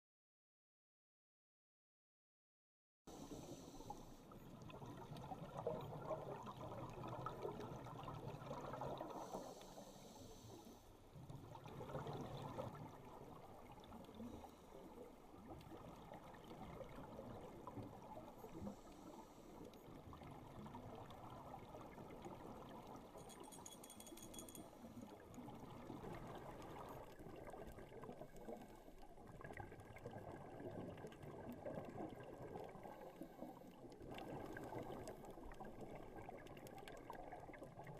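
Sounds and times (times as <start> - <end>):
muffled underwater rush: 3.1 - 23.2, 25.1 - 37.9.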